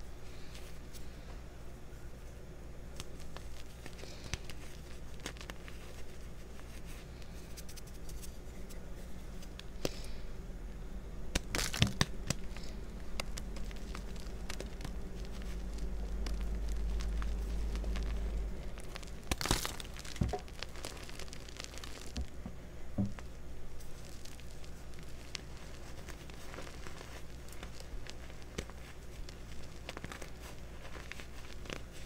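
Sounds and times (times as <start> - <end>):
low hum: 0.0 - 32.0
hand crunching chalk powder: 2.9 - 10.2, 11.3 - 22.3, 23.8 - 32.0.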